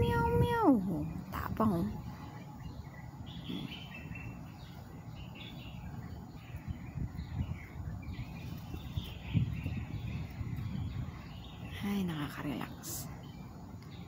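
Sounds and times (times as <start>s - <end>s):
low steady rumble: 0.0s - 14.0s
small birds chirping: 0.0s - 14.0s.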